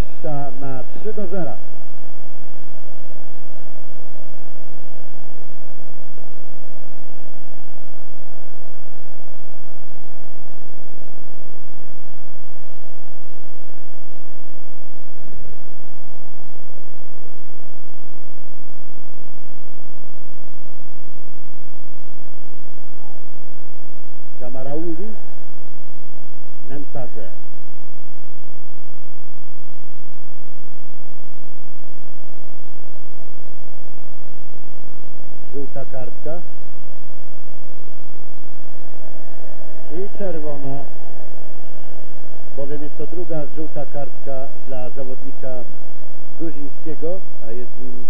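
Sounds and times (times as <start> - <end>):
constant low hum: 0.0 - 48.0.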